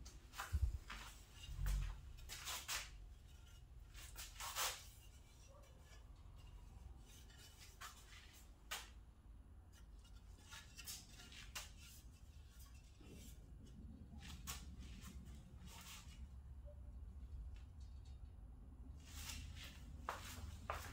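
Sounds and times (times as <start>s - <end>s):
low room hum: 0.0s - 20.9s.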